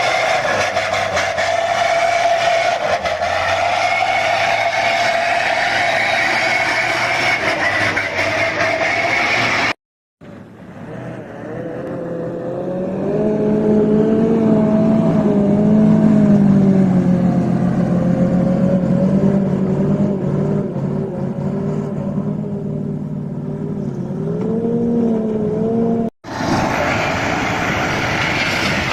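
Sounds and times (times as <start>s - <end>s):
heavy vehicle engine droning: 0.0s - 28.9s.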